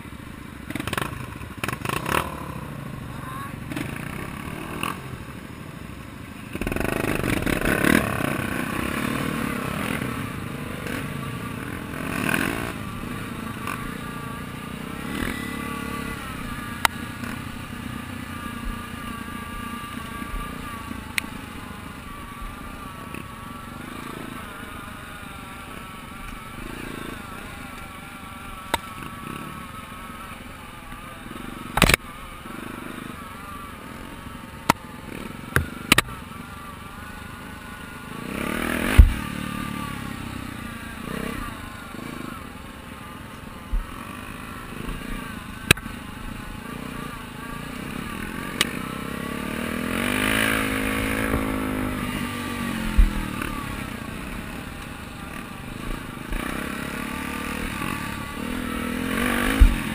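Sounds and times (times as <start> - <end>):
dirt bike engine revving: 0.0 - 5.7, 6.3 - 59.9.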